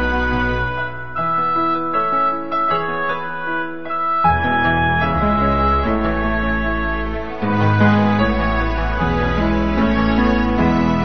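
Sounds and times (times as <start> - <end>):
slow sad background music: 0.0 - 11.0.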